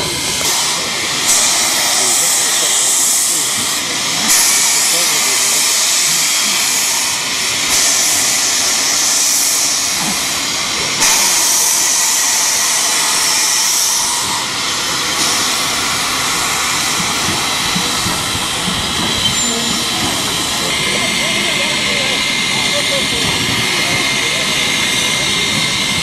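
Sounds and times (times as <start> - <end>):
steam locomotive venting steam: 0.0 - 26.0.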